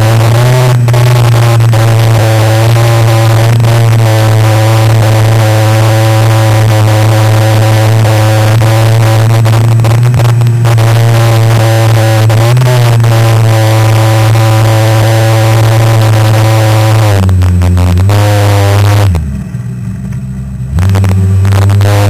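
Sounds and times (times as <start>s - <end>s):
two-stroke engine drone: 0.0s - 22.0s.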